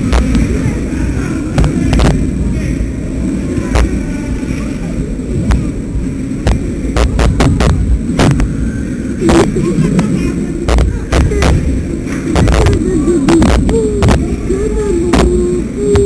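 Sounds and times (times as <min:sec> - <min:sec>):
static crackling pops: 0:00.0 - 0:00.9, 0:01.5 - 0:02.4, 0:03.7 - 0:04.1, 0:05.3 - 0:16.0
constant low rumble: 0:00.0 - 0:16.0.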